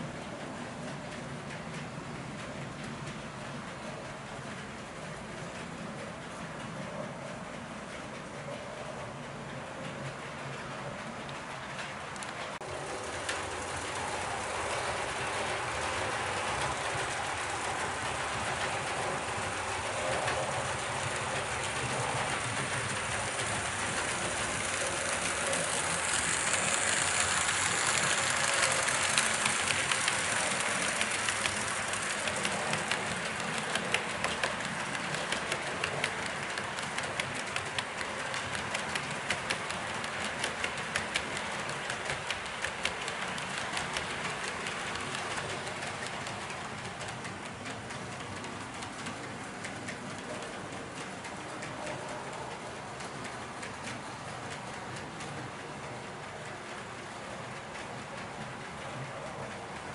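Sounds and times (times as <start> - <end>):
train rumbling along rails: 0.0 - 59.9.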